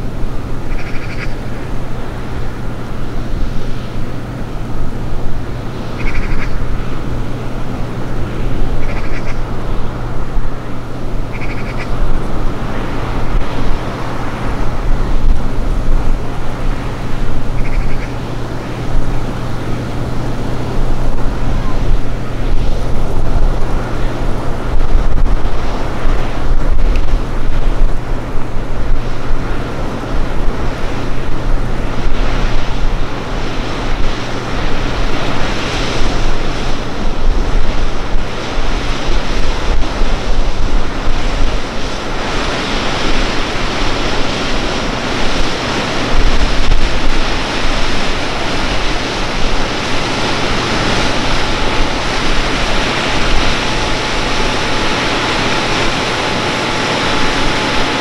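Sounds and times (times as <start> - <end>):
ship engines droning: 0.0 - 58.0
wind on microphone: 0.0 - 58.0.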